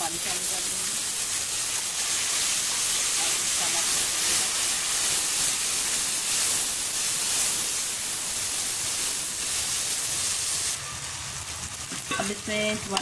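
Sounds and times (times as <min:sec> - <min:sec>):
masala sizzling in a metal pan: 0:00.0 - 0:13.0.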